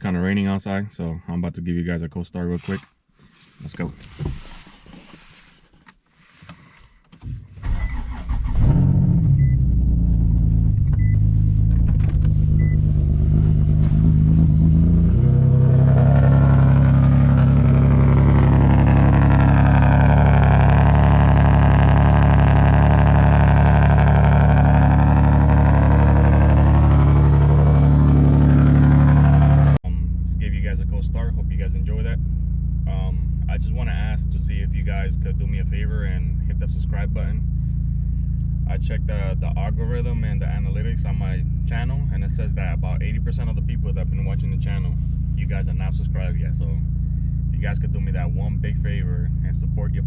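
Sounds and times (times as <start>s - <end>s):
car engine starting and idling: 7.1s - 50.0s.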